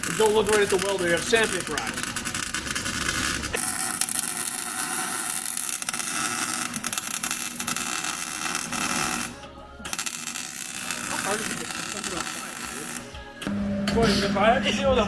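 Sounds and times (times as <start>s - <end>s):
arc welder crackling hiss: 0.0s - 15.0s.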